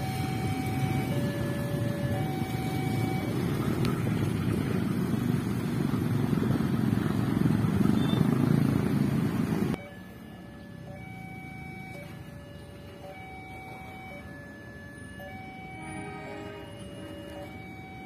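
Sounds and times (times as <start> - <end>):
motorbike and scooter engines: 0.0 - 18.0.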